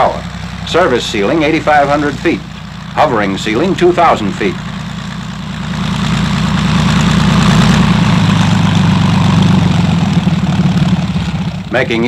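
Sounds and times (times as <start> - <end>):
helicopter hovering drone: 0.0 - 12.0.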